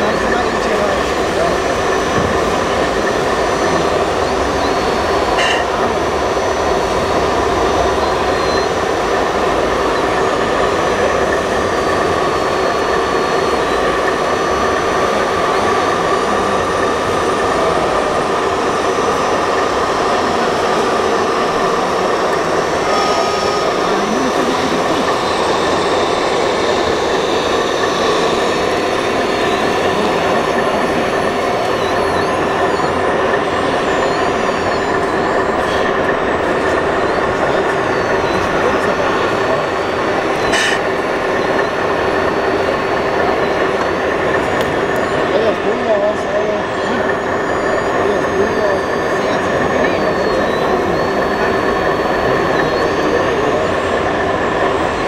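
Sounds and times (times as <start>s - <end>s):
electric motors and gears whining: 0.0s - 55.0s
steady mechanical drone: 0.0s - 55.0s.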